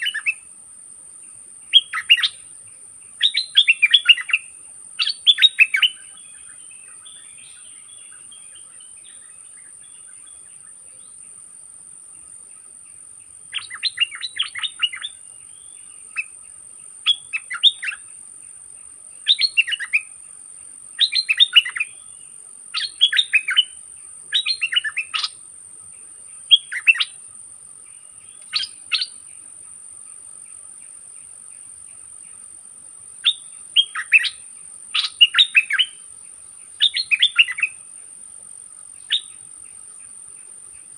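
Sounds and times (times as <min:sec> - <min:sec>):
high insect whine: 0:00.0 - 0:40.9.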